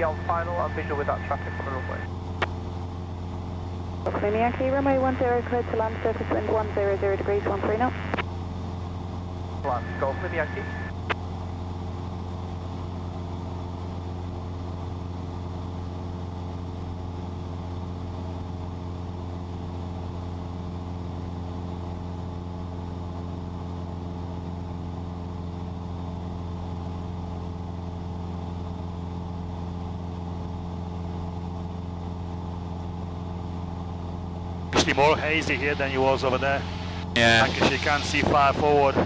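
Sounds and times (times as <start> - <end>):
light aircraft engine droning: 0.0 - 39.0.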